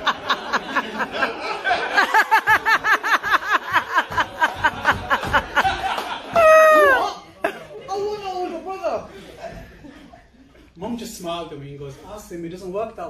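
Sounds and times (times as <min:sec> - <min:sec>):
audience laughing: 0:00.0 - 0:10.8.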